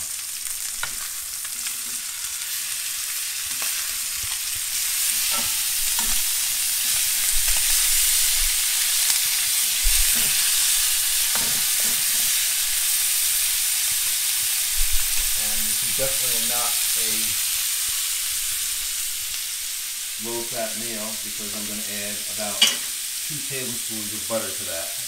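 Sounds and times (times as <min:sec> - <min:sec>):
meat sizzling in a skillet: 0:00.0 - 0:25.0.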